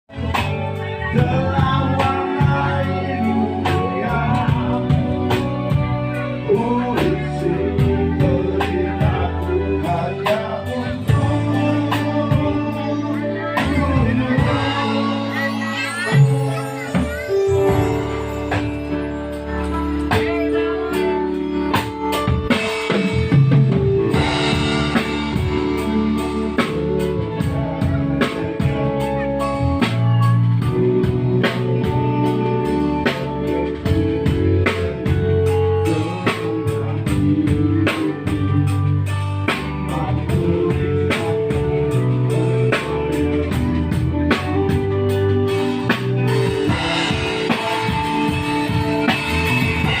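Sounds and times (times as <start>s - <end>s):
guitar: 0.0s - 50.0s
drum kit beat: 0.1s - 50.0s.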